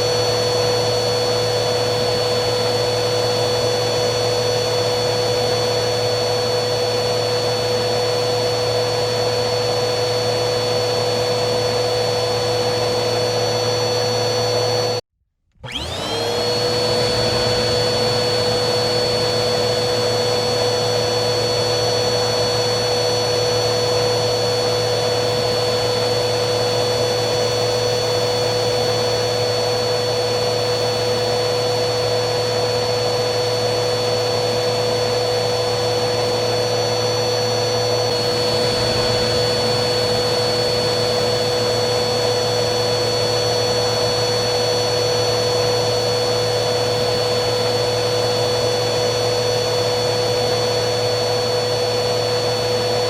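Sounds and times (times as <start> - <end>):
vacuum cleaner motor whining: 0.0 - 53.0.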